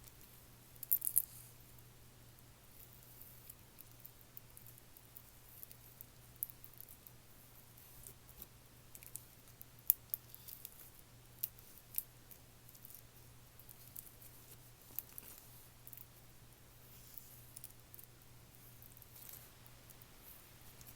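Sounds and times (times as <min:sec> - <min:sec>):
faint low hum: 0:00.0 - 0:20.9.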